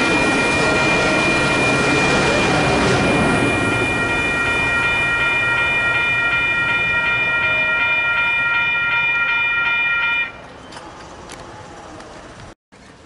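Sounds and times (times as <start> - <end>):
railroad crossing bells ringing: 0.0 - 10.6
passing train rumble: 0.0 - 13.0.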